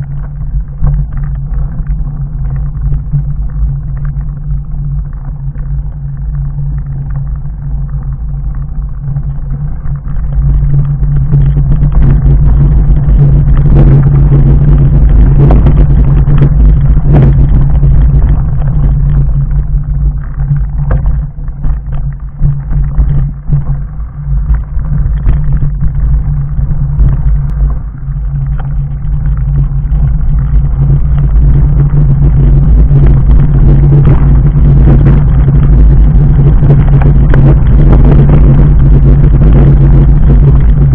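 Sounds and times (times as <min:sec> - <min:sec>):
bike tyres rumbling on gravel: 0:00.0 - 0:40.9.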